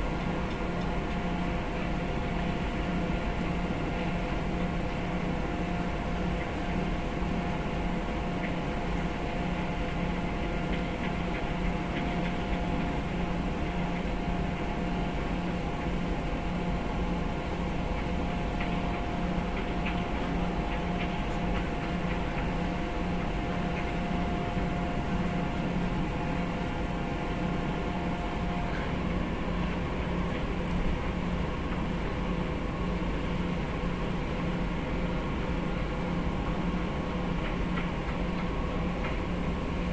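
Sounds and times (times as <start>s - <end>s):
ship engine low hum: 0.0s - 39.9s.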